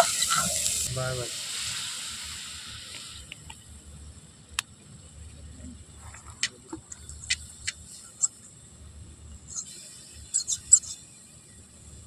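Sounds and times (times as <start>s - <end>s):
gas stove rumble: 0.0s - 12.0s.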